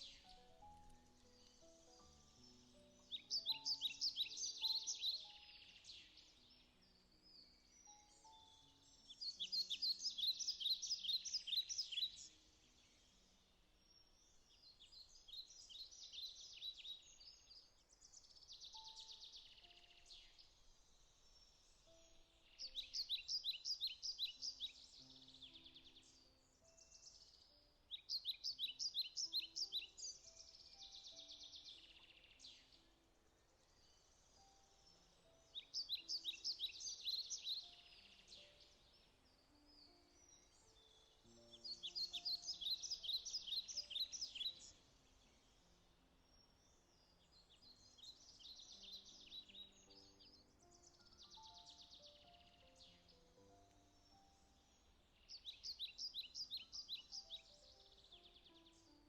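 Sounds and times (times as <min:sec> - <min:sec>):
soft slow piano notes: 0:00.0 - 0:59.0.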